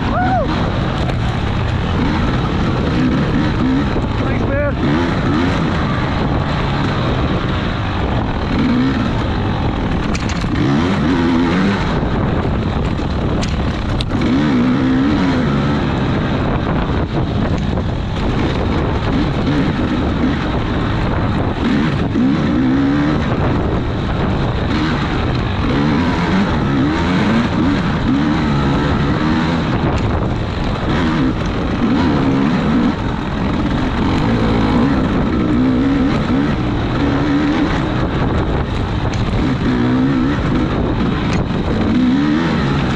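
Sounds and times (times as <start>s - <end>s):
racing engine revving: 0.0s - 42.9s.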